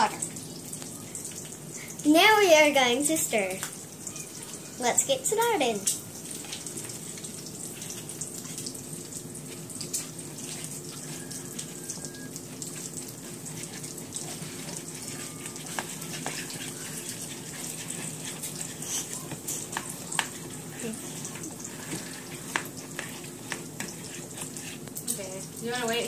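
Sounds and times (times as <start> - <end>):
bacon sizzling: 0.0 - 26.0
whisk stirring batter in plastic bowl: 4.4 - 26.0.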